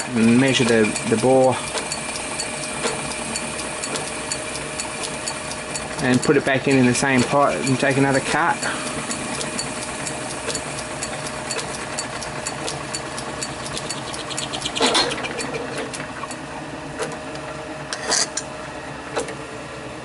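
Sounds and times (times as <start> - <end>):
fast regular ticking: 0.0 - 16.4
lathe motor and gear hum: 0.0 - 20.0.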